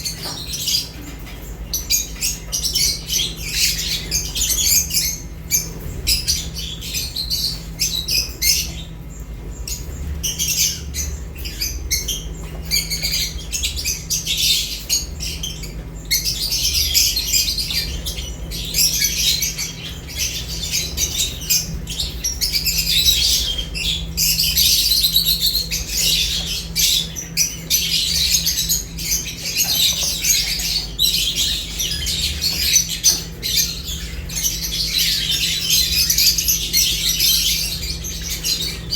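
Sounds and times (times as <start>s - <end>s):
lovebirds chirping and squawking: 0.0s - 38.9s.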